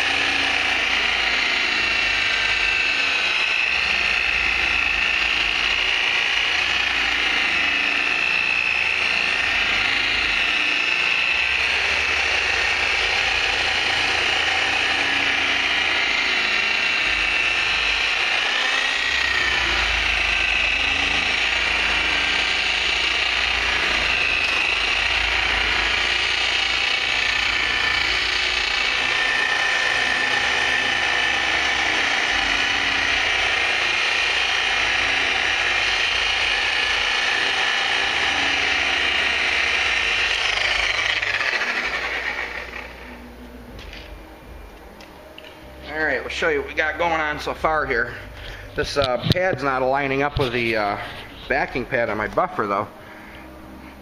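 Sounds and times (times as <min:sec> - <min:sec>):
power buffer whining: 0:00.0 - 0:54.0.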